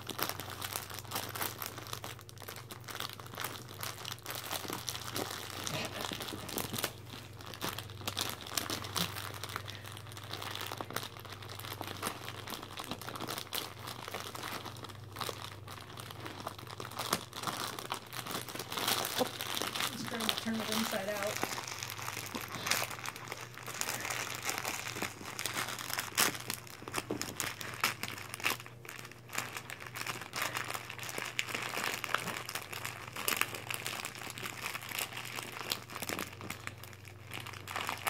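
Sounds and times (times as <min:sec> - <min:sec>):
chip bag crinkling: 0:00.0 - 0:38.0
dog licking inside bag: 0:00.0 - 0:38.0.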